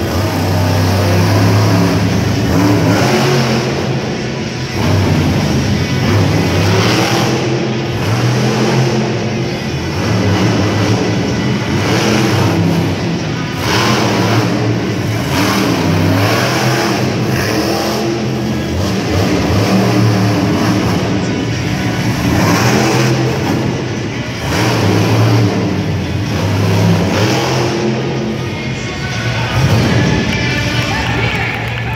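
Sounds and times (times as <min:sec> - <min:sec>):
monster truck engines revving: 0:00.0 - 0:31.9.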